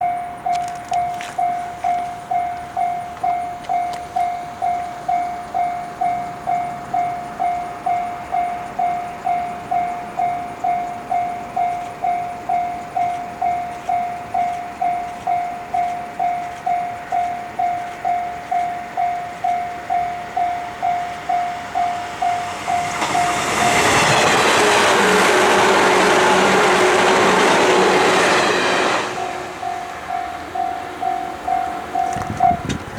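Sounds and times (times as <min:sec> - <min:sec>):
electric train passing: 0:00.0 - 0:32.9.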